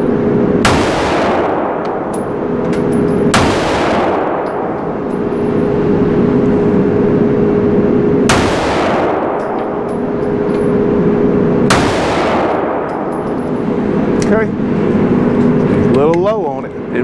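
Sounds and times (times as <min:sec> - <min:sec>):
gunshots echoing indoors: 0:00.0 - 0:14.2
steady hum: 0:00.0 - 0:17.0.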